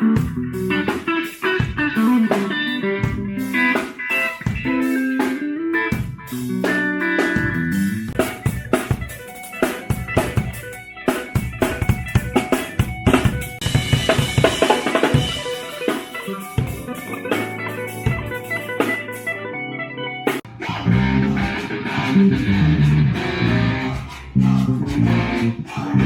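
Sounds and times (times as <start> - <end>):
drum kit hits and fills: 0.0 - 19.5, 20.3 - 25.6
electric guitar notes: 0.0 - 25.7.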